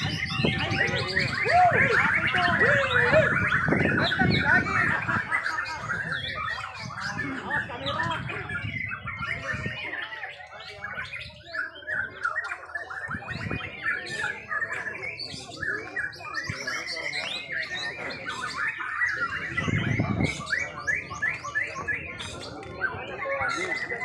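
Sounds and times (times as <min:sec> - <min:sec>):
songbirds whistling and chirping: 0:00.0 - 0:24.0.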